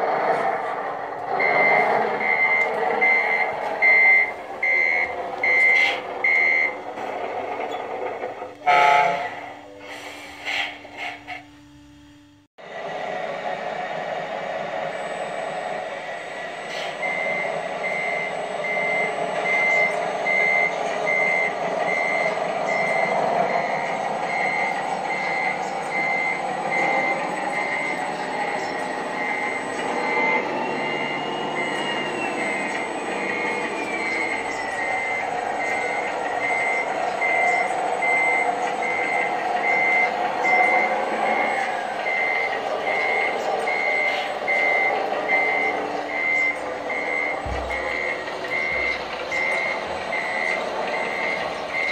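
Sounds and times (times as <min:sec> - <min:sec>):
reversing beeper: 0:00.0 - 0:08.0, 0:11.2 - 0:51.9
truck engine: 0:00.0 - 0:51.9.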